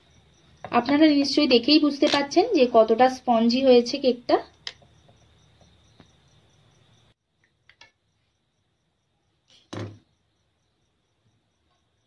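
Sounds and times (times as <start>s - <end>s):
faint cricket chirping: 0.0s - 12.0s.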